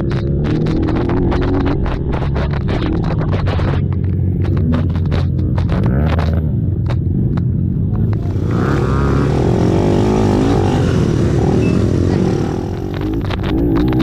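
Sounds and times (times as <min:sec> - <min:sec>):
atv engines revving: 0:00.0 - 0:14.0.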